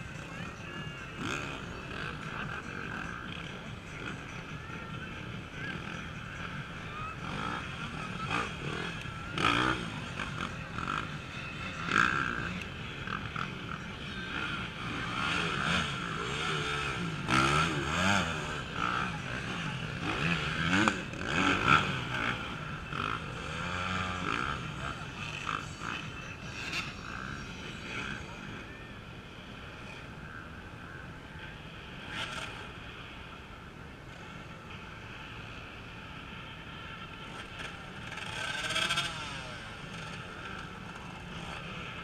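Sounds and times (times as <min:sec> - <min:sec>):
motorcycles revving hard: 0:00.0 - 0:30.5, 0:31.3 - 0:42.0.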